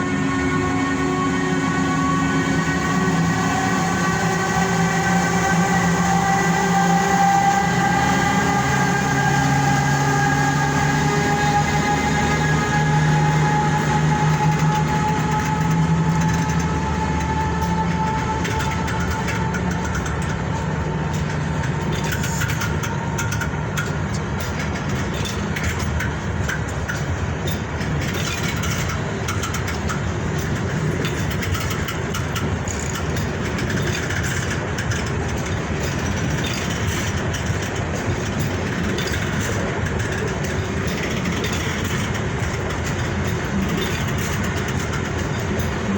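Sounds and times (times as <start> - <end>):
high whine: 0.0 - 45.9
train rumbling on track: 0.0 - 45.9.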